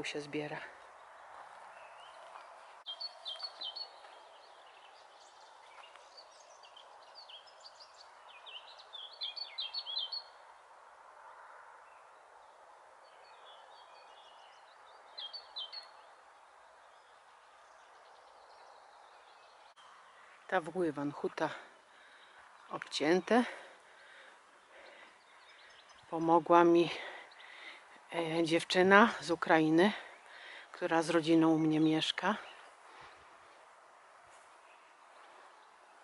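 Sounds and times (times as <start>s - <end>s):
faint outdoor rush: 0.0s - 36.0s
songbird singing: 0.0s - 36.0s.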